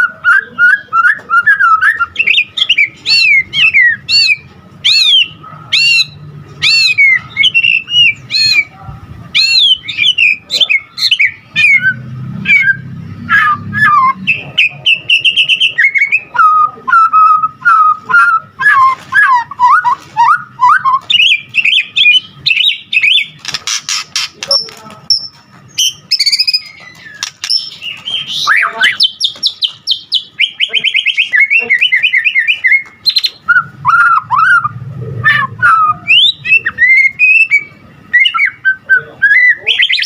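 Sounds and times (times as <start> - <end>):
songbird singing whistles and trills: 0.0 - 8.7, 9.3 - 40.0.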